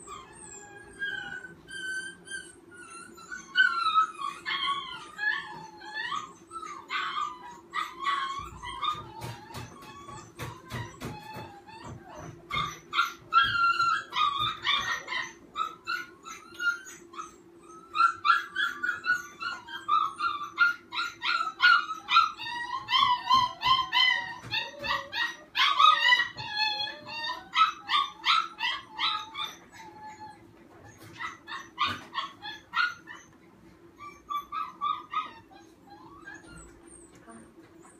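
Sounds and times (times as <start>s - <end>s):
puppy whining and yelping: 0.0s - 37.9s.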